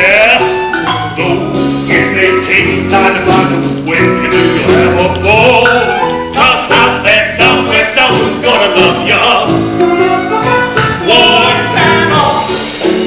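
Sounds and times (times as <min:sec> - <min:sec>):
person singing: 0:00.0 - 0:09.7, 0:11.0 - 0:12.9
show-tune music with beat: 0:00.0 - 0:13.0.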